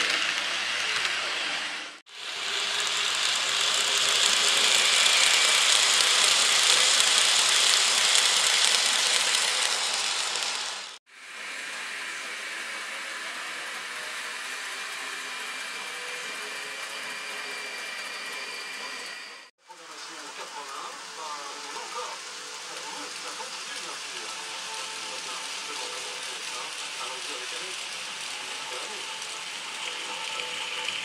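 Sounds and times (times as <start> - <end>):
model train whirring on track: 0.0 - 31.0.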